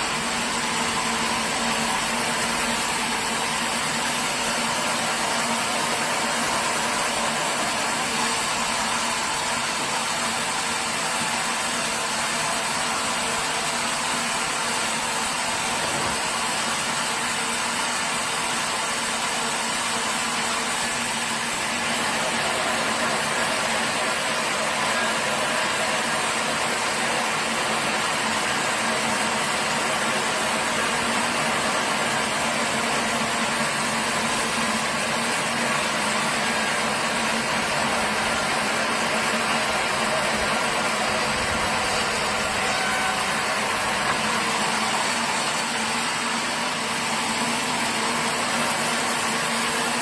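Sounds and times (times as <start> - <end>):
sawmill machinery running: 0.0 - 50.0.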